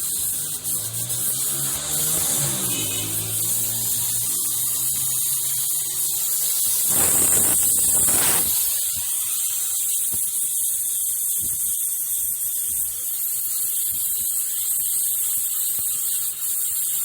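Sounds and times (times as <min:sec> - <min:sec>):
welding torch flame hissing: 0:00.0 - 0:17.0.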